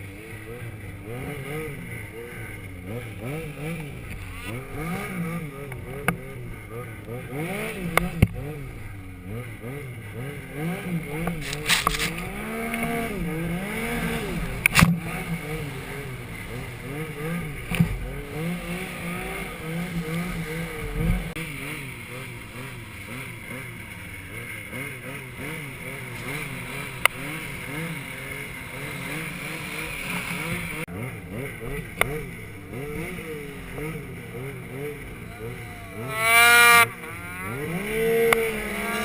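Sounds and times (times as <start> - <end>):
snowmobile engine revving: 0.0 - 39.0.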